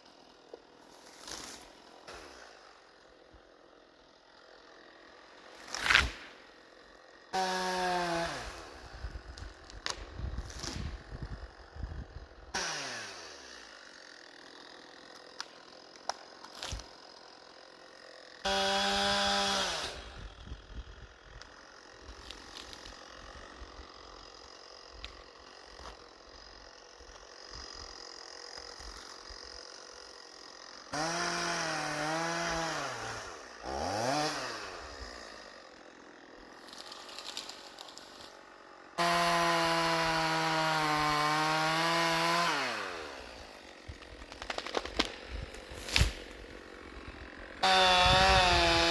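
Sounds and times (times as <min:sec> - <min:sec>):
chainsaw revving: 0:00.0 - 0:48.9.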